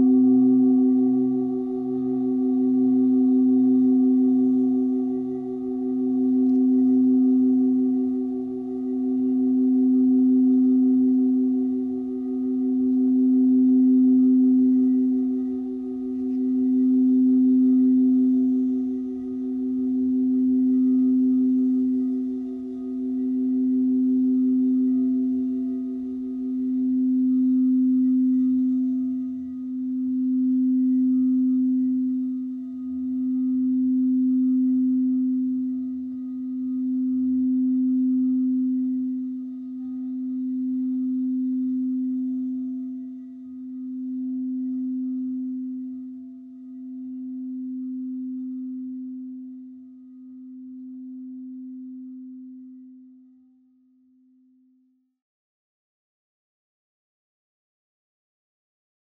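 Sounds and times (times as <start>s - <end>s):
singing bowl ringing: 0.0s - 53.2s.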